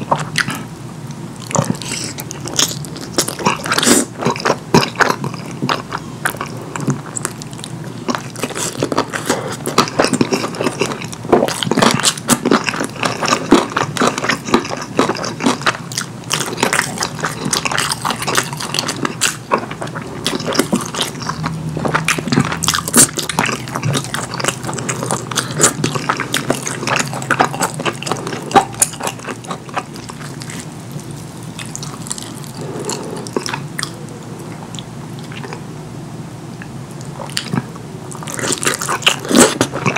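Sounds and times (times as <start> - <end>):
wet chewing and biting: 1.4 - 34.0, 37.0 - 39.9.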